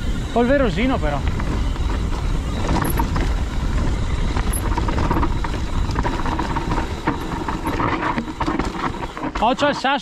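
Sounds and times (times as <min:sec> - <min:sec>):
wind on microphone: 0:00.0 - 0:09.4
bike clicks and rattles: 0:00.0 - 0:10.0
tyre noise: 0:00.0 - 0:10.0.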